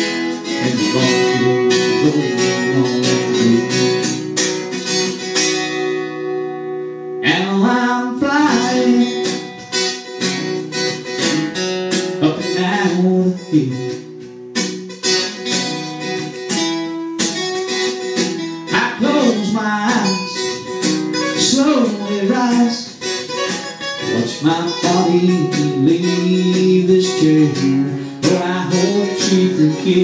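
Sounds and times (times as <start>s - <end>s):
acoustic guitars playing: 0.0s - 30.0s.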